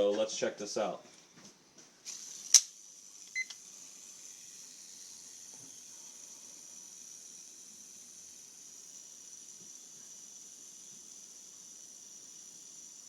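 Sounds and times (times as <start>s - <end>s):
reel spool whirring: 2.0s - 13.0s.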